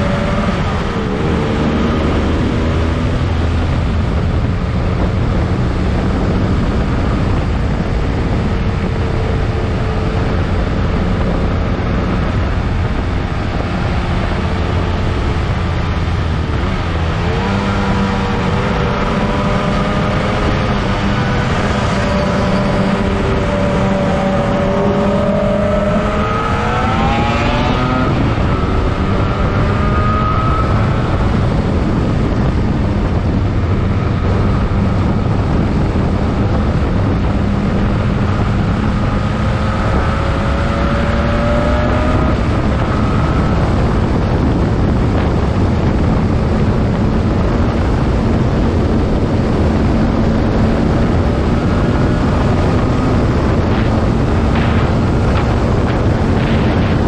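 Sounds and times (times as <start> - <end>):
motorcycle engine revving: 0.0 - 57.0
wind rush over microphone: 0.0 - 57.0.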